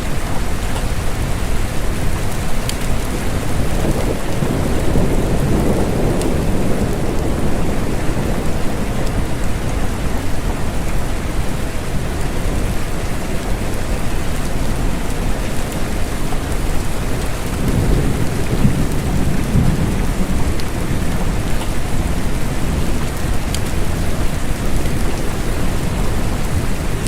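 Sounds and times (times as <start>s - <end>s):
steady rain falling: 0.0s - 27.0s
low rumble of thunder: 0.1s - 27.0s.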